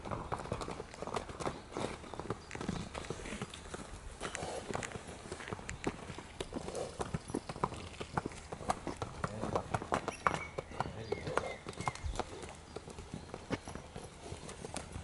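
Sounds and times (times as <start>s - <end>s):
horse hooves on tarmac: 0.0s - 15.0s.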